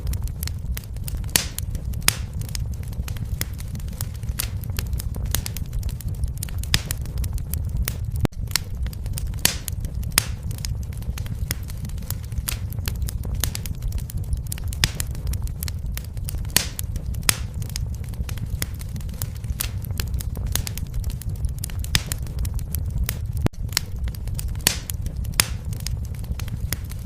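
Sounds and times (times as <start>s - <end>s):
fireplace fire crackling: 0.0s - 27.0s
low fire rumble: 0.0s - 27.0s.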